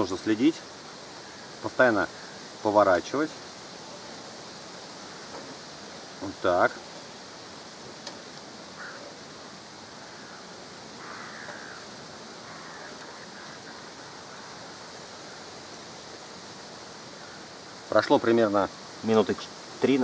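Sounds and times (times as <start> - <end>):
fat dripping onto hot coals: 0.0 - 20.0
meat sizzling over charcoal: 0.0 - 20.0.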